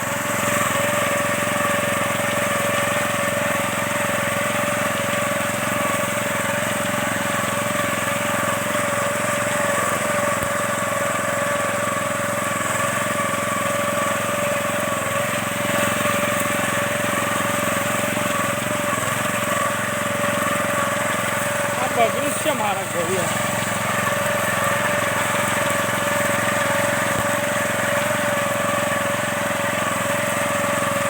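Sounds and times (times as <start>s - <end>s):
harvester engine humming: 5.8s - 31.0s.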